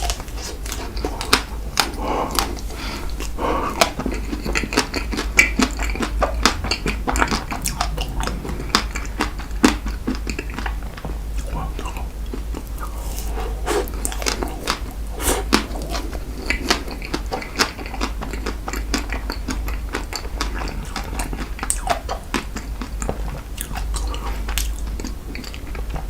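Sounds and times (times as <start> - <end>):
close-miked chewing and mouth clicks: 0.0 - 26.0
steady low hum: 0.0 - 26.0.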